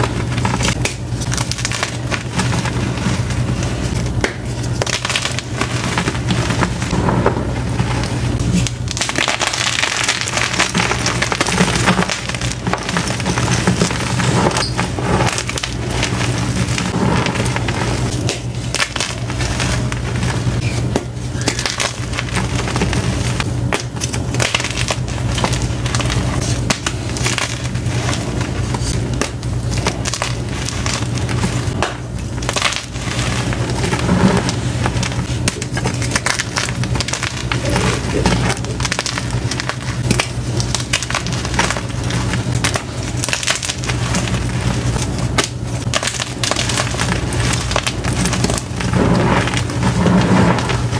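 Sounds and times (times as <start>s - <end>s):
hands crushing chalk: 0.0s - 50.9s.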